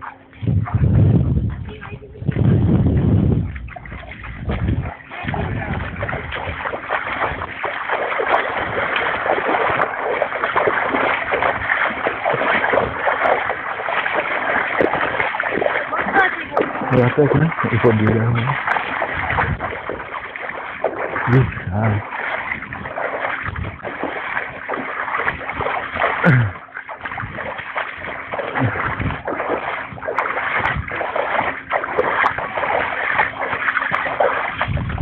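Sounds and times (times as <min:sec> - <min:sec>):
water splashing around legs: 0:00.0 - 0:35.0.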